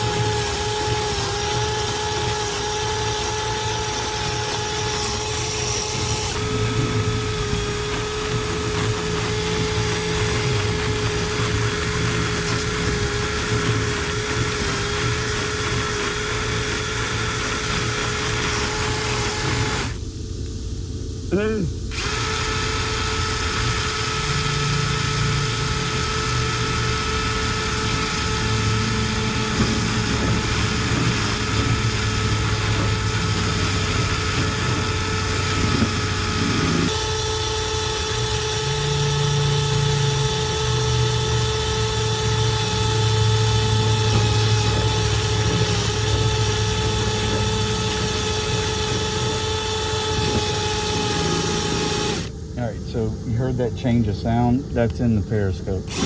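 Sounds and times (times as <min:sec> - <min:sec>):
power drill spinning brush in duct: 0:00.0 - 0:20.0, 0:21.9 - 0:56.0.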